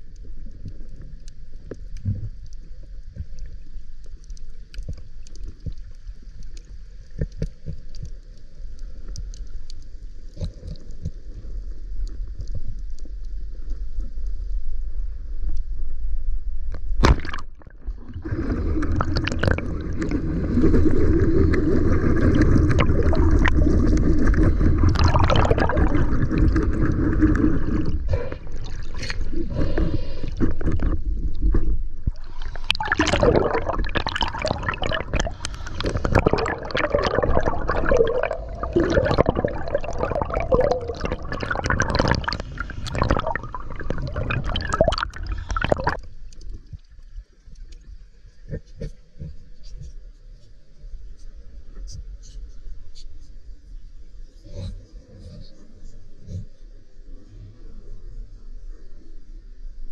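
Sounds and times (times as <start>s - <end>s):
underwater gurgling and sloshing: 0.0s - 59.9s.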